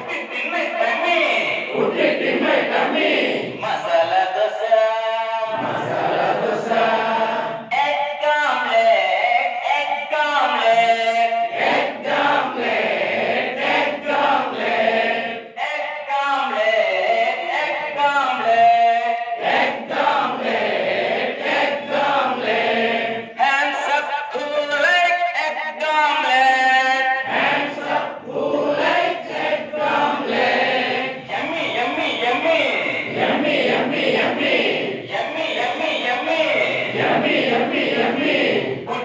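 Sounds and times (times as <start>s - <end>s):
group chanting a rhyme: 0.0s - 4.8s, 5.4s - 24.3s, 26.1s - 39.0s.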